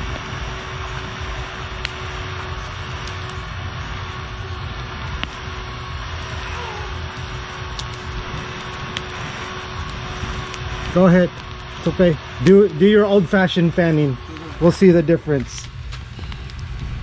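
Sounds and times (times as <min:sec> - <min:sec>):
airflow rumbling on microphone: 0:00.0 - 0:17.0
fire crackling: 0:00.0 - 0:17.0
handheld fan humming: 0:00.0 - 0:17.0.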